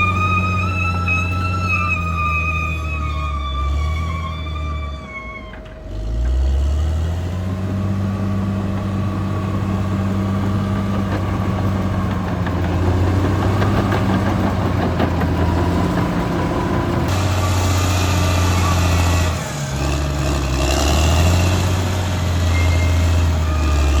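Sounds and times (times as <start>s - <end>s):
bulldozer diesel engine: 0.0s - 24.0s.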